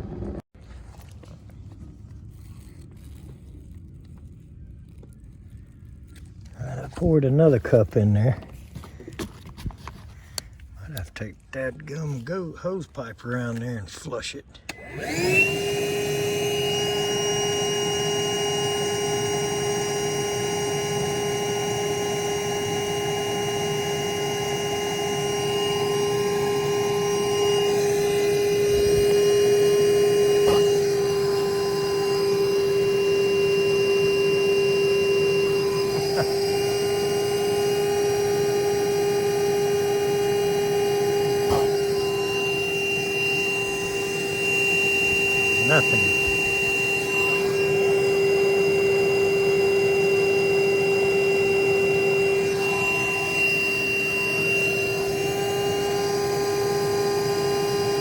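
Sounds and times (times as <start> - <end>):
small electric motor whining: 0.0 - 58.0.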